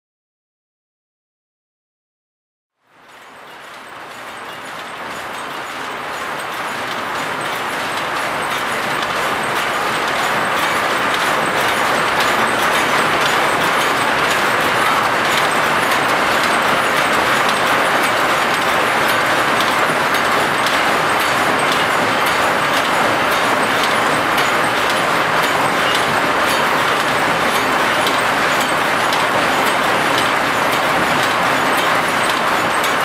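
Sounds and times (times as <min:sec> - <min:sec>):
looms clattering: 0:03.1 - 0:33.0.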